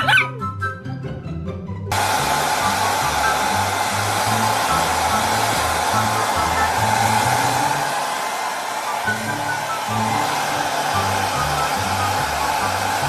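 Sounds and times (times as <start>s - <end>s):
appliance blowing air: 1.9s - 13.0s.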